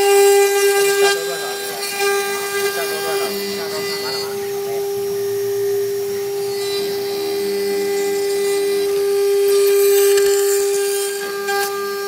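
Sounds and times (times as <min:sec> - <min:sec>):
router spindle cutting plastic: 0:00.0 - 0:12.0.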